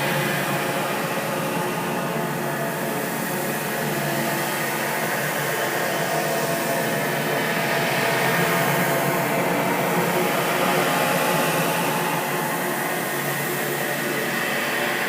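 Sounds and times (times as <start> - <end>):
eerie ambient drone: 0.0 - 15.0.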